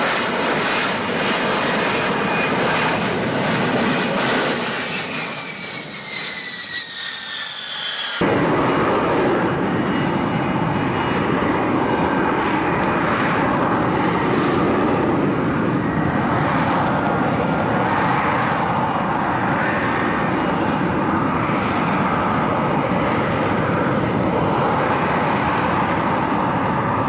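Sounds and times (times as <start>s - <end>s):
jet engine roar: 0.0s - 27.0s
jet turbine whine: 0.0s - 27.0s.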